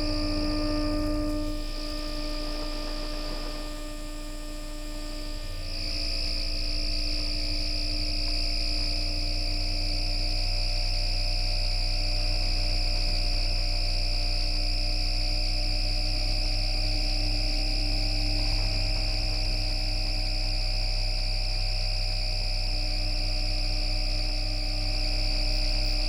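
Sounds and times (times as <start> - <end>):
tram electric hum and whine: 0.0 - 26.0.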